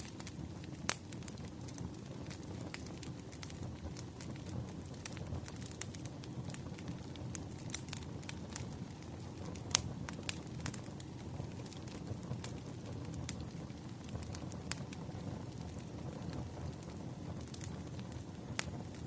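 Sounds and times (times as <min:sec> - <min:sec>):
campfire crackling: 0:00.0 - 0:19.0
wood fire sharp pops: 0:00.0 - 0:19.0.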